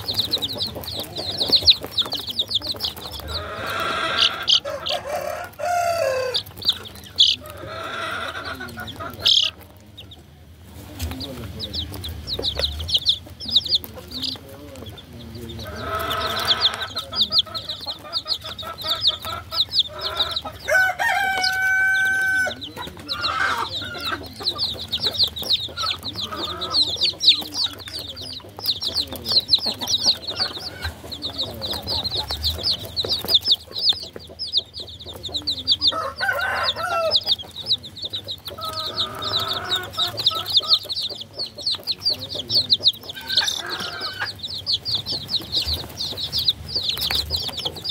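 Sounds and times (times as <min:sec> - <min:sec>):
baby chicks peeping: 0:00.0 - 0:47.9
chicken calls: 0:00.0 - 0:47.9.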